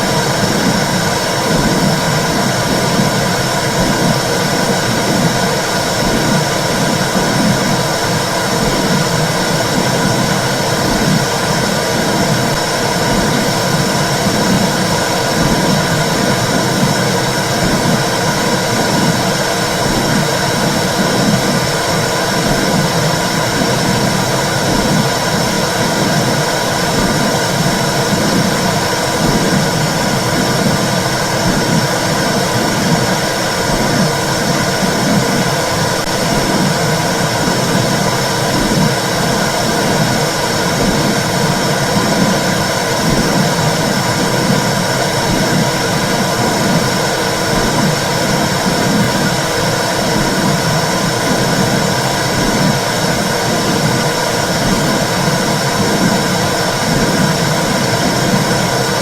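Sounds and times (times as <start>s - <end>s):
soft regular heartbeat pulse: 0.0s - 52.9s
steady whooshing noise: 0.0s - 59.0s.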